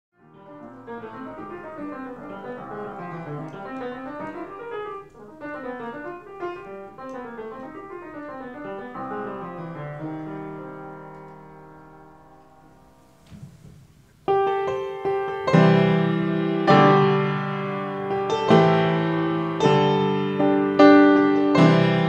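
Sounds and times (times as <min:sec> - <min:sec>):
piano playing: 0:00.1 - 0:22.0.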